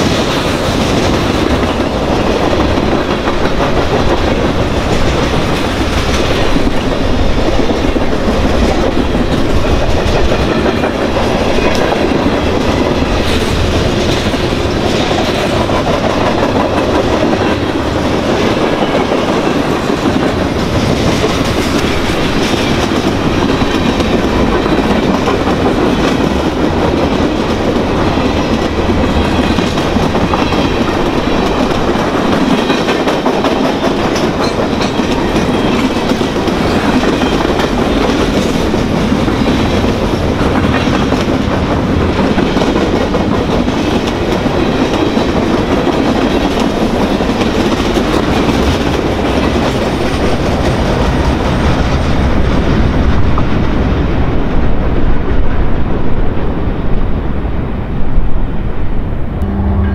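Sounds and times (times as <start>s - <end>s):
train wheels clacking over rails: 0.0s - 54.1s
freight train passing: 0.0s - 59.9s.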